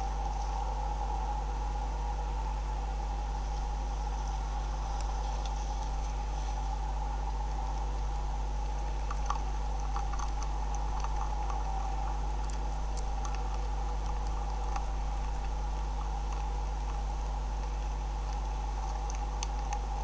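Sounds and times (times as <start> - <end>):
electrical hum: 0.0 - 20.0
beaver chewing and crunching: 3.3 - 20.0.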